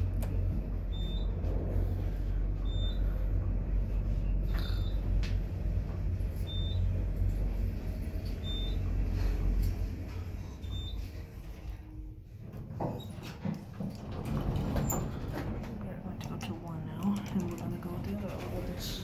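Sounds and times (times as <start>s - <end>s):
elevator car rumbling: 0.0s - 19.0s.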